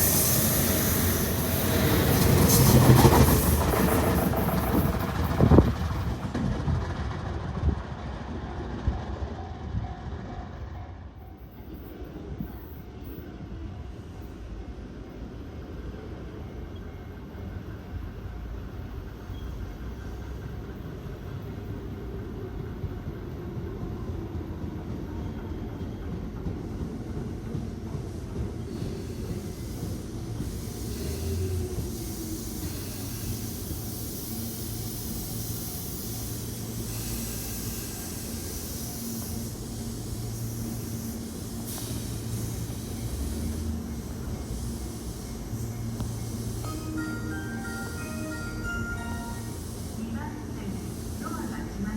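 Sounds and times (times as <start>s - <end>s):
electric train rumble: 0.0s - 51.9s.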